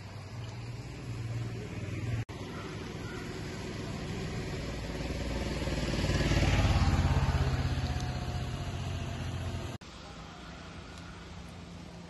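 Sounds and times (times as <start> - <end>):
vehicle engine passing by: 0.0 - 9.8.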